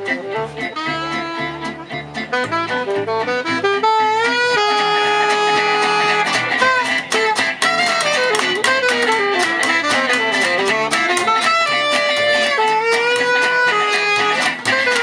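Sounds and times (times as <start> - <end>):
bass: 0.0 - 15.0
lead melody instrument: 0.0 - 15.0
strummed guitar: 0.0 - 15.0.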